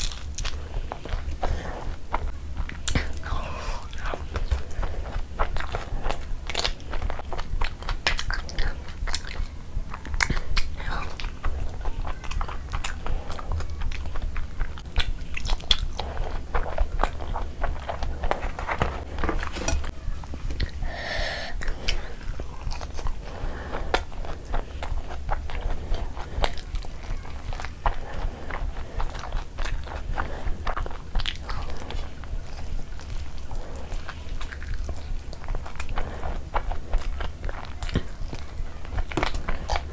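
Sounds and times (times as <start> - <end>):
wet smacking and mouth clicks: 0.0 - 20.8, 21.4 - 39.9
person chewing food: 0.0 - 39.9
steady low hum: 0.0 - 39.9.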